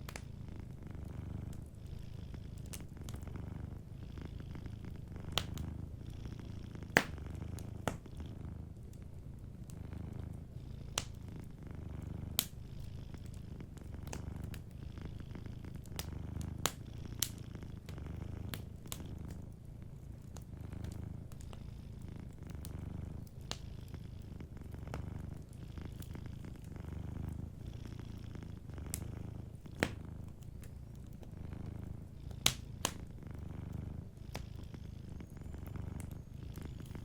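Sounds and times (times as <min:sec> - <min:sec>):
cat purring: 0:00.0 - 0:37.0
wood fire crackling: 0:00.0 - 0:37.0.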